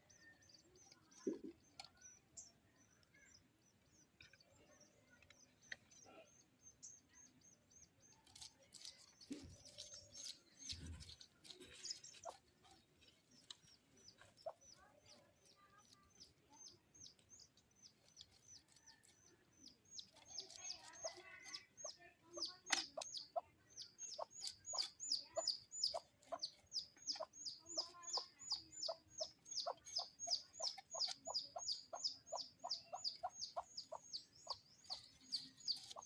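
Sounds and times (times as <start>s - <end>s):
small bird chirping: 0.0s - 36.0s.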